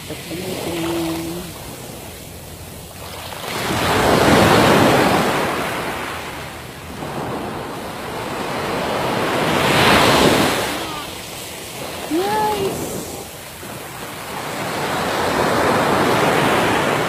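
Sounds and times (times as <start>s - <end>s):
small waves breaking on a beach: 0.0s - 17.0s.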